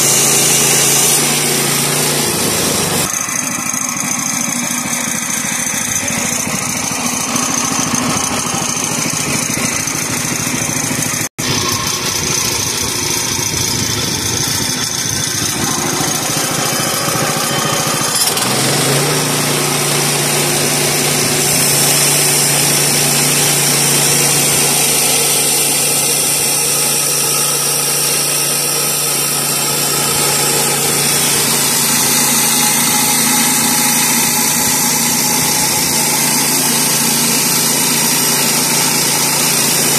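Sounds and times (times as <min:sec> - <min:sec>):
band saw blade sawing wood: 0:00.0 - 0:39.9
small engine running: 0:00.0 - 0:39.9.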